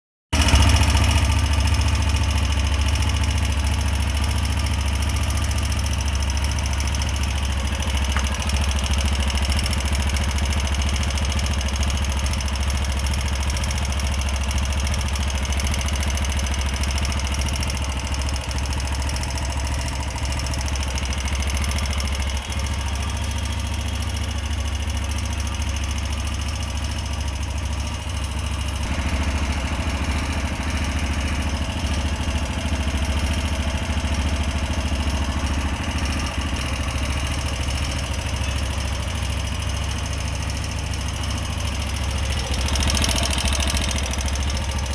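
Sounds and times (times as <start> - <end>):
motorcycle engine idling: 0.3 - 44.9.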